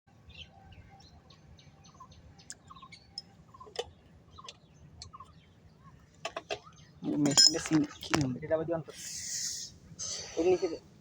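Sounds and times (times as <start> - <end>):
faint birds chirping: 0.1 - 11.0.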